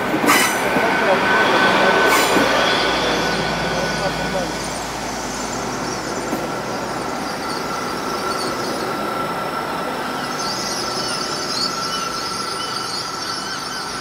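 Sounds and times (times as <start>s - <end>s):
train running with whine: 0.0s - 14.0s
wheel and brake squeal: 1.3s - 14.0s.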